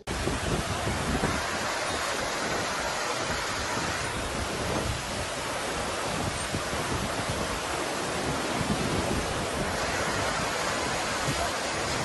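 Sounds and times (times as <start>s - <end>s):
river roaring over a weir: 0.0s - 12.0s
wind on microphone: 0.0s - 12.0s.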